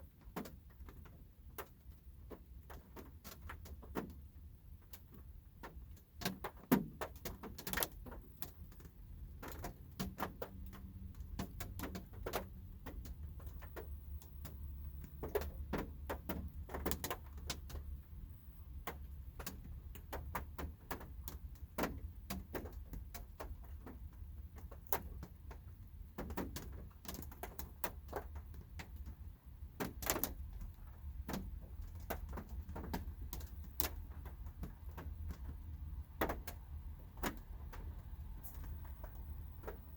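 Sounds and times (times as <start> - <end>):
raindrops tapping on car roof: 0.0 - 39.9.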